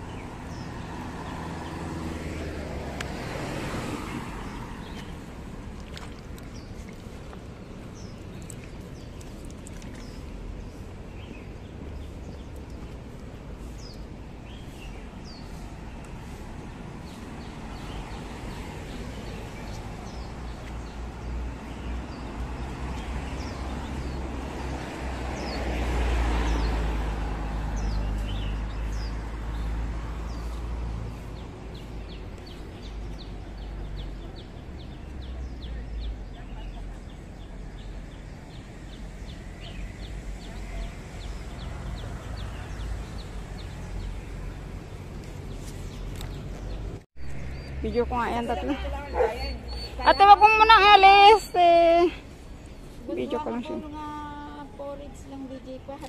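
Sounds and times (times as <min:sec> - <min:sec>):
vehicle passing: 0:00.0 - 0:06.7, 0:14.7 - 0:55.9
birds chirping: 0:00.0 - 0:56.0
low traffic rumble: 0:00.0 - 0:56.0.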